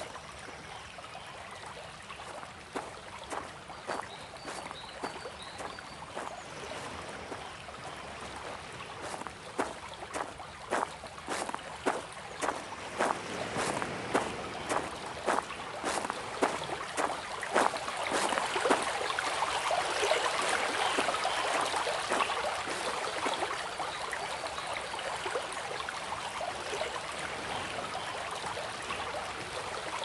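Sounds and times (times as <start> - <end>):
small water splashes: 0.0 - 30.0
stream water trickling: 0.0 - 30.0.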